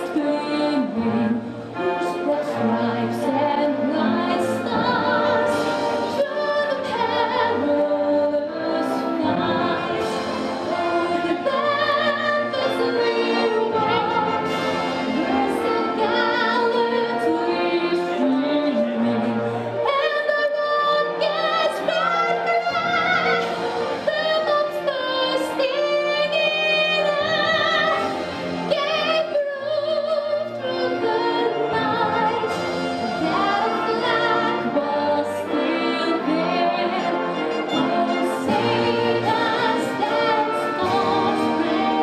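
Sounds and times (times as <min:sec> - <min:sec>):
low musical accompaniment: 0:00.0 - 0:42.0
woman singing operatically: 0:00.0 - 0:42.0.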